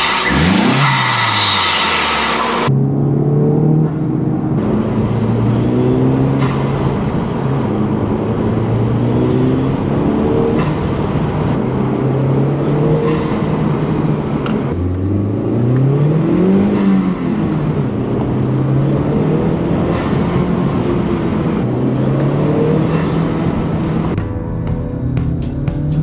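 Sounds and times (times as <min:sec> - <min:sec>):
car engine pulling hard: 0:00.0 - 0:26.0
road noise: 0:00.0 - 0:26.0.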